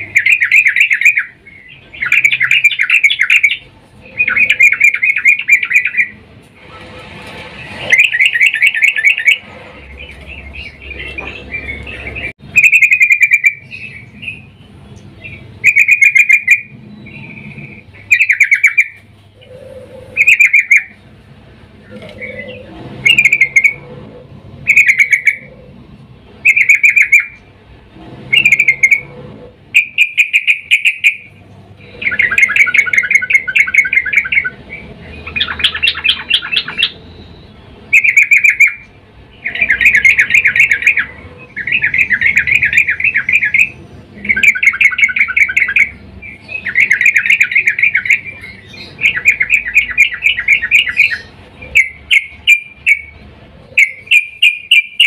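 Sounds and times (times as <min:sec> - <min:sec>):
bird fast chattering: 0:00.0 - 0:06.2, 0:07.6 - 0:21.0, 0:26.4 - 0:27.5, 0:29.7 - 0:55.0
bird calling: 0:00.0 - 0:21.2, 0:21.8 - 0:27.5, 0:28.3 - 0:55.0.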